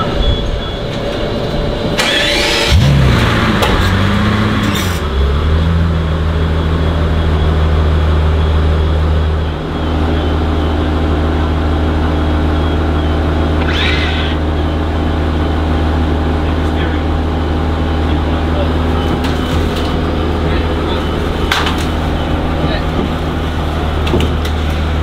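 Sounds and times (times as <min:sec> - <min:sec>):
car engine idling: 0:01.2 - 0:25.0.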